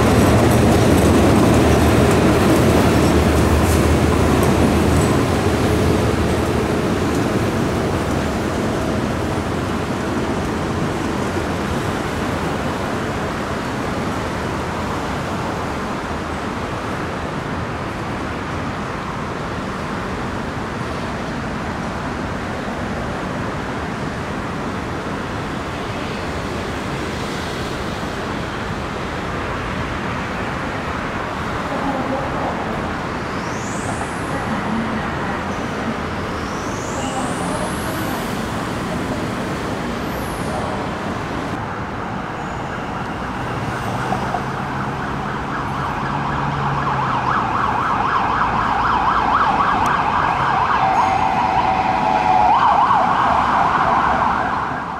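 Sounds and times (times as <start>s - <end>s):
rail noise: 0.0s - 54.9s
traffic noise: 0.0s - 54.9s.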